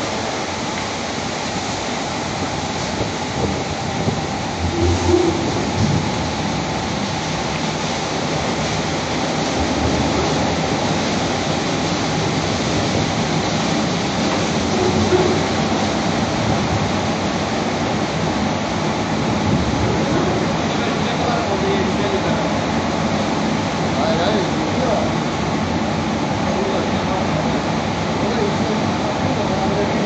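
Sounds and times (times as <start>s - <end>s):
water spray rushing: 0.0s - 30.0s.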